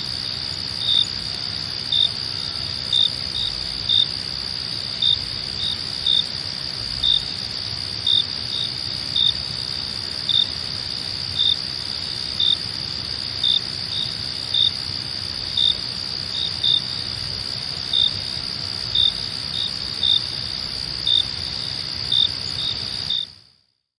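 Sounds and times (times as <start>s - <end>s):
crickets chirping: 0.0s - 23.6s.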